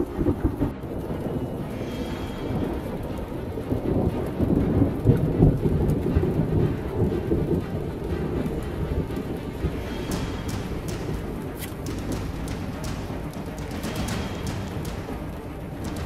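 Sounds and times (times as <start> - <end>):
rain falling: 0.0 - 16.0
thunder rumbling: 0.0 - 16.0.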